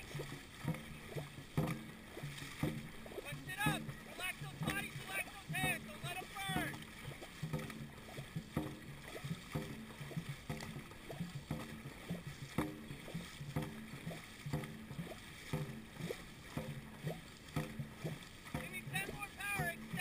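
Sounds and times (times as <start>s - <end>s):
crew rhythmic voice sounds: 0.0s - 20.0s
paddles striking water: 0.0s - 20.0s
water rushing along hull: 0.0s - 20.0s.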